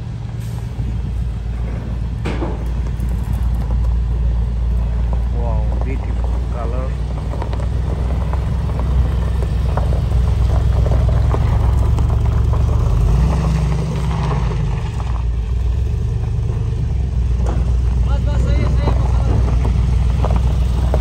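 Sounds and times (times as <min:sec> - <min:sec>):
engine rumbling at low speed: 0:00.0 - 0:21.0
tyres on gravel: 0:00.0 - 0:21.0.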